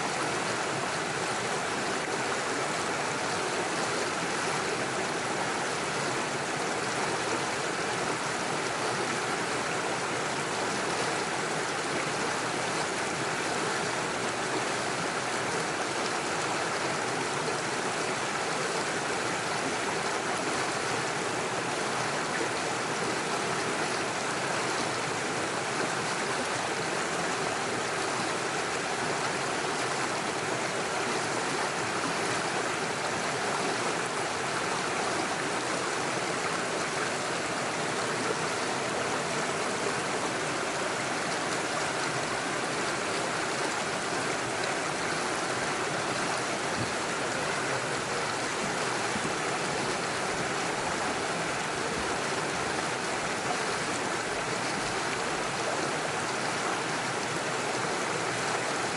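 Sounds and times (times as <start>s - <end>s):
stream splashing over stones: 0.0s - 58.9s.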